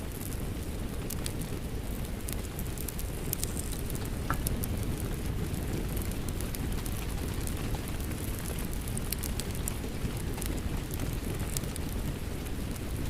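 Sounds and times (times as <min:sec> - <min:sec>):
steady rain: 0:00.0 - 0:13.0
wood fire crackling and popping: 0:00.0 - 0:13.0.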